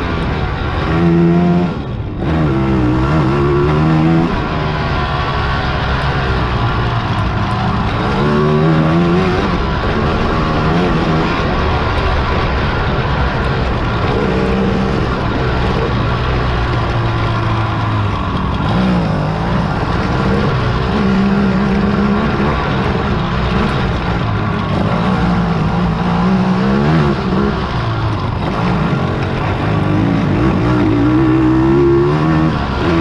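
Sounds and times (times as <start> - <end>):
quad engines revving: 0.0 - 33.0.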